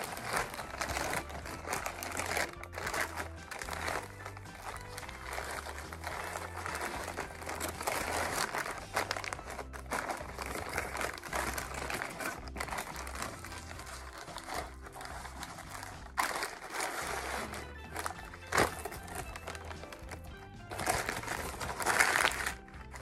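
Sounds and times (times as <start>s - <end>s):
paper wrapper crinkling: 0.0s - 23.0s.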